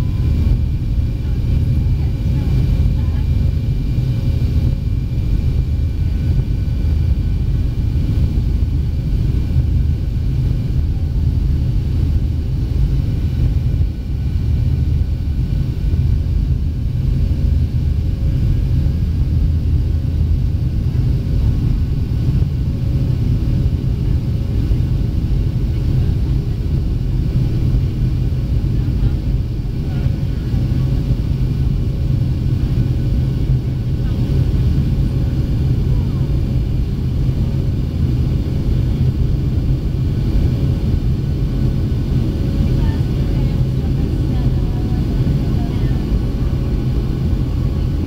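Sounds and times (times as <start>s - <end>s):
airplane cabin low rumble: 0.0s - 48.0s
faint steady whine: 0.0s - 48.0s.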